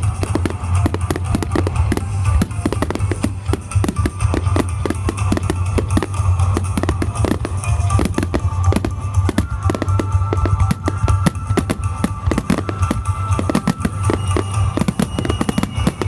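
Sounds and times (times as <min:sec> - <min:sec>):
fireworks banging and crackling: 0:00.0 - 0:16.0
loud music: 0:00.0 - 0:16.0
steady low drone: 0:00.0 - 0:16.0.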